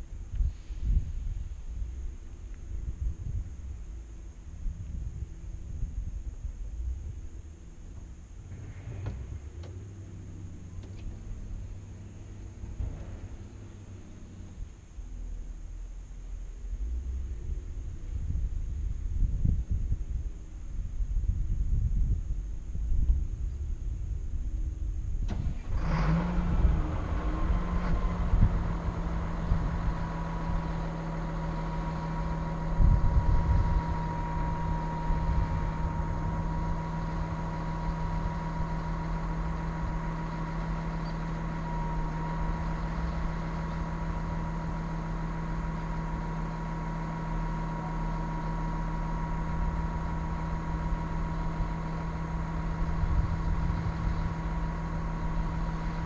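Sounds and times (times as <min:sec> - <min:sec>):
diesel engine idling: 0:00.0 - 0:56.0
engine whine: 0:00.0 - 0:56.0.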